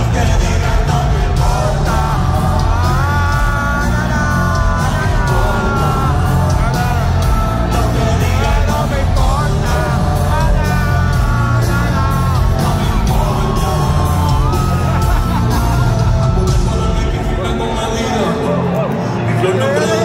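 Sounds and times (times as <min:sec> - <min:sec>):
crowd yelling and singing along: 0:00.0 - 0:20.0
live concert music: 0:00.0 - 0:20.0.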